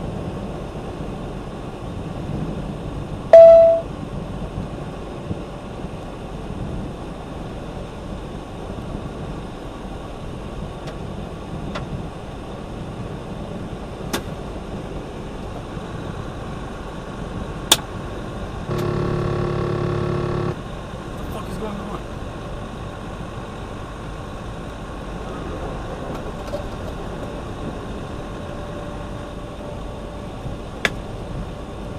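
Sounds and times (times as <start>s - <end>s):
truck road and engine noise: 0.0s - 31.9s.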